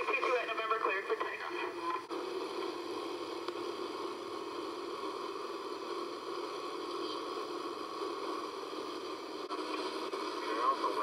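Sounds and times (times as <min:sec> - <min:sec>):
small plane engine and propeller: 0:01.5 - 0:11.0.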